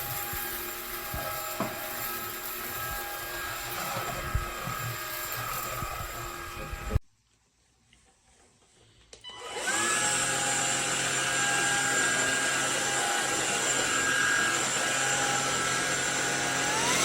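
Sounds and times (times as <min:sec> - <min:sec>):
stick vacuum cleaner running: 0:00.0 - 0:07.0, 0:09.4 - 0:17.0.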